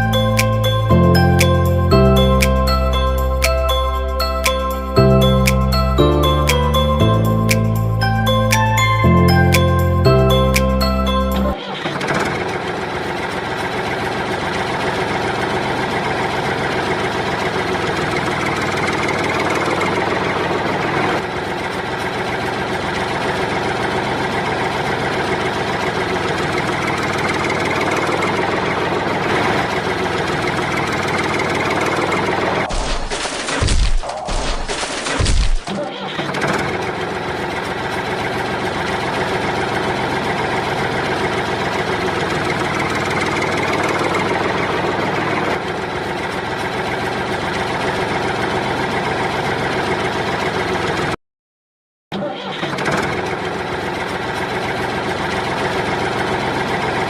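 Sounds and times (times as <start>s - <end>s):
digger engine running: 0.0s - 51.2s, 52.1s - 57.0s.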